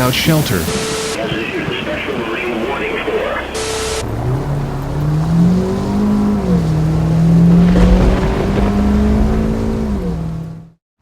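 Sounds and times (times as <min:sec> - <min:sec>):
engine running: 0:00.0 - 0:10.8.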